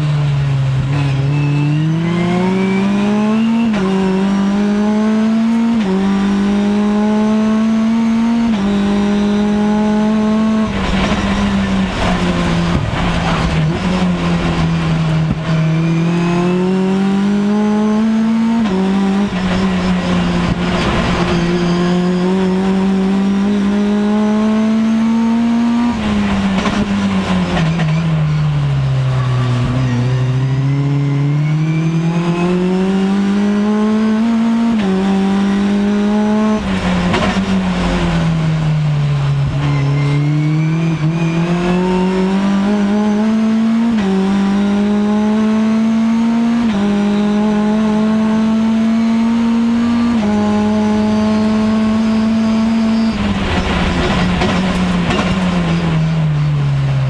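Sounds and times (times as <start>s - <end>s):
race car engine revving: 0.0s - 57.0s
tyre and road noise: 0.0s - 57.0s.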